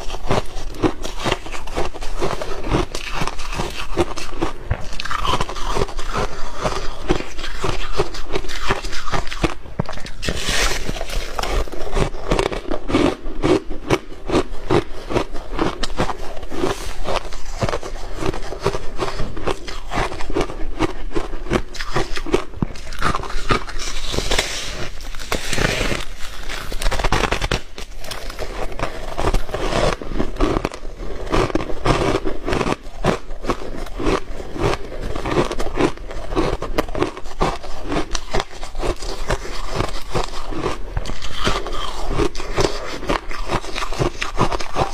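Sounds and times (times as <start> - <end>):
chewing crunchy shaved ice: 0.0 - 44.9.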